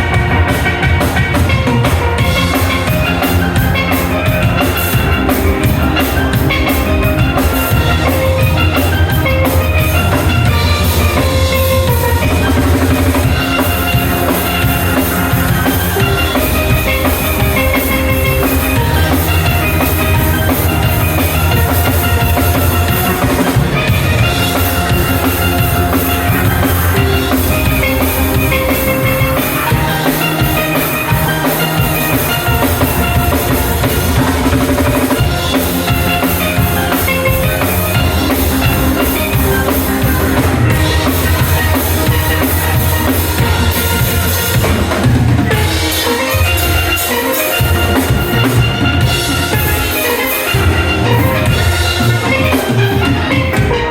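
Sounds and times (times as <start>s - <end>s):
drum kit steady beat: 0.0s - 53.9s
steel pans playing melody: 0.0s - 53.9s.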